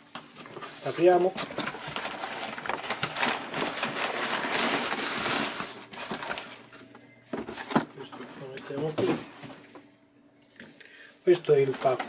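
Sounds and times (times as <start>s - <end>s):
packing paper rustling: 0.0s - 9.7s, 11.3s - 12.0s.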